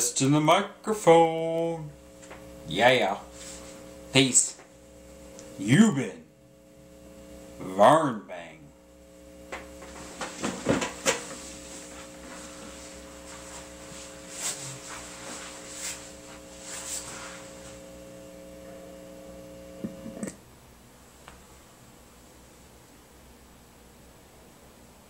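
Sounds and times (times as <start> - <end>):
mains hum buzz: 0.0 - 25.0.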